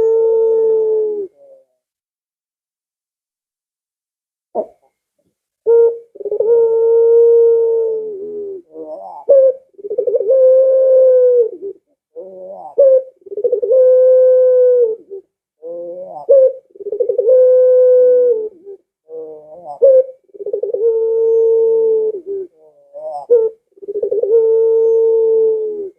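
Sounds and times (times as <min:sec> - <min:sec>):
dove cooing: 0:00.0 - 0:01.8, 0:04.6 - 0:05.0, 0:05.6 - 0:25.9.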